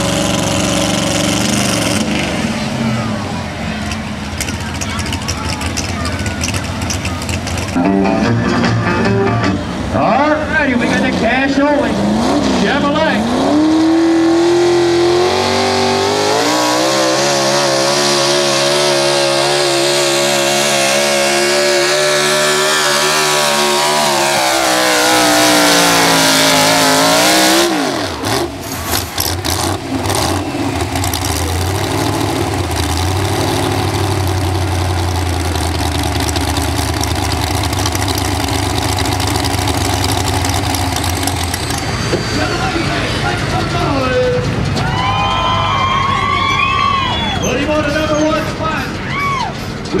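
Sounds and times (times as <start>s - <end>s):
engine low rough rumble: 0.0s - 50.0s
truck engine at full throttle: 0.0s - 50.0s.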